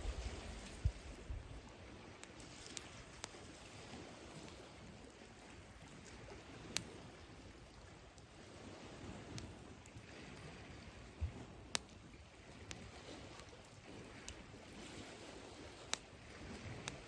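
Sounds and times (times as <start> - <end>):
campfire crackling and popping: 0.0 - 17.0
sea waves washing on shore: 0.0 - 17.0.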